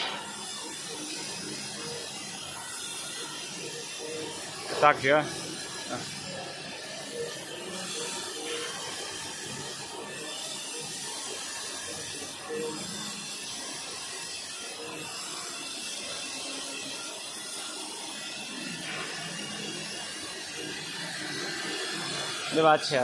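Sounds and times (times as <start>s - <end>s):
band saw cutting paper rolls: 0.0s - 23.0s.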